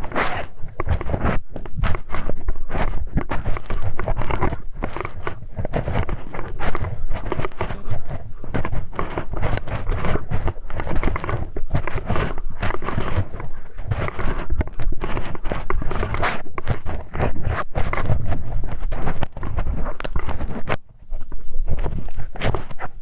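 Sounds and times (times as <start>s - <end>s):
metal hex key scraping microphone: 0.0s - 23.0s.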